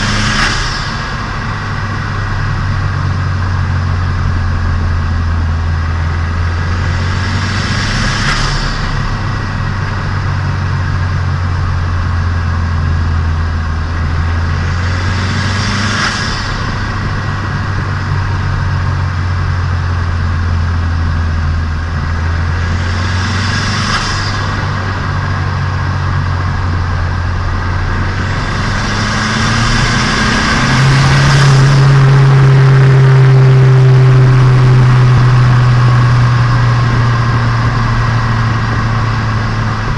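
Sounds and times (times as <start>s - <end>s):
car engine cruising: 0.0s - 39.9s
rushing whoosh: 0.0s - 39.9s.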